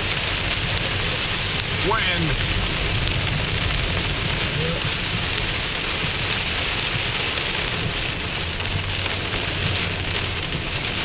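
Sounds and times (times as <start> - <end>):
low road rumble: 0.0 - 11.0
rain hitting car roof: 0.0 - 11.0.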